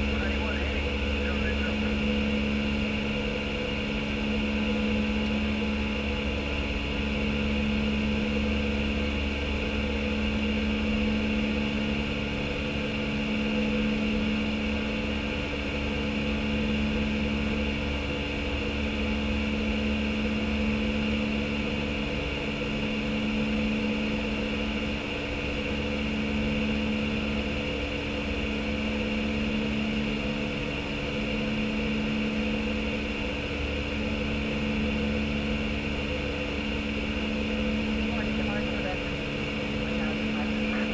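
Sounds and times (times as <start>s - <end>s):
low cabin hum: 0.0s - 40.9s.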